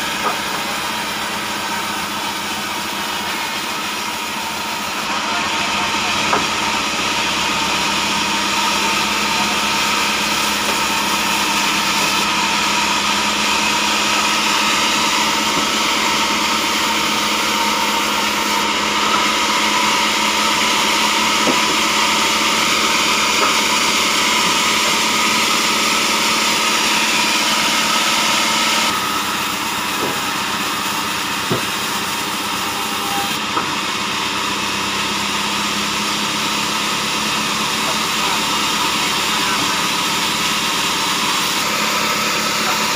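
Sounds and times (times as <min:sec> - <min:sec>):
band saw cutting log: 0:00.0 - 0:42.9.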